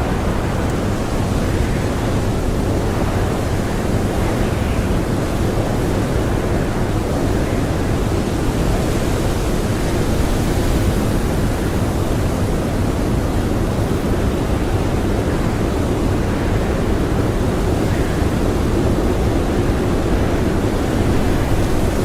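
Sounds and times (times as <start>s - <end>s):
strong blizzard wind: 0.0s - 22.0s.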